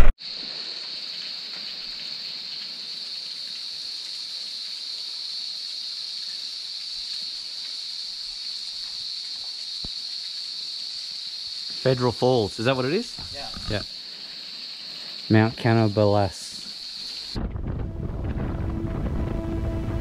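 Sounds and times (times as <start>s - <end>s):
waterfall splashing onto rocks: 0.0s - 20.0s
high-pitched insect drone: 0.2s - 17.4s.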